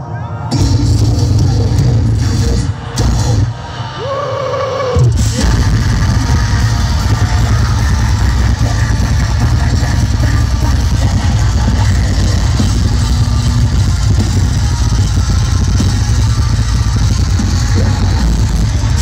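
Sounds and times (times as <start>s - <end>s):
distorted guitars: 0.0s - 19.0s
drums: 0.4s - 19.0s
bass guitar: 0.5s - 3.7s, 5.0s - 19.0s.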